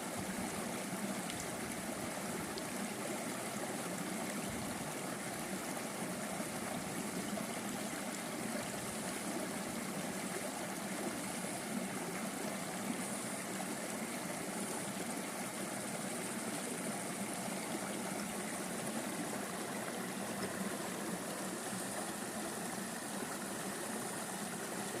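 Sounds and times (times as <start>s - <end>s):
stream babbling: 0.0s - 25.0s.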